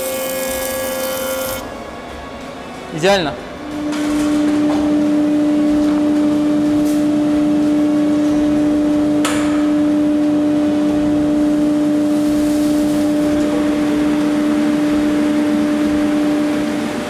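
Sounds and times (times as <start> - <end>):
woodworking machine humming: 0.0 - 17.0.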